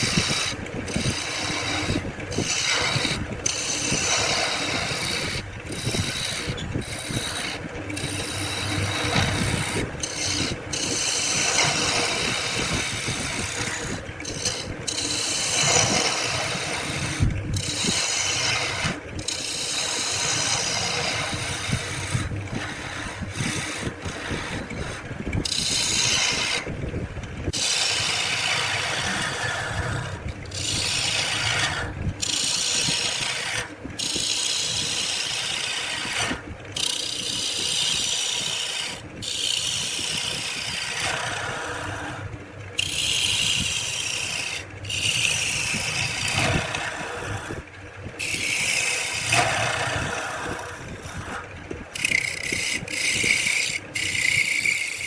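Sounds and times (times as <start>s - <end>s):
tool rasping against wood: 0.0s - 26.7s, 27.5s - 55.0s.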